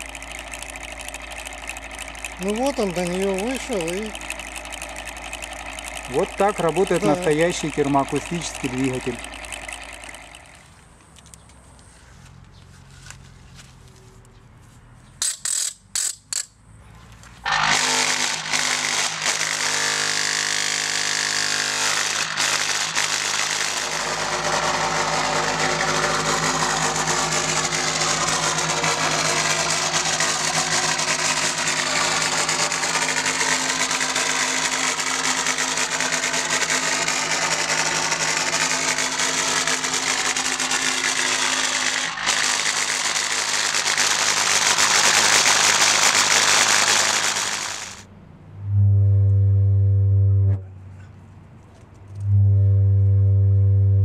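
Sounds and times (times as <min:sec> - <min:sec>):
loud steady engine buzz: 0:00.0 - 0:11.3, 0:16.8 - 0:48.1, 0:52.0 - 0:54.0.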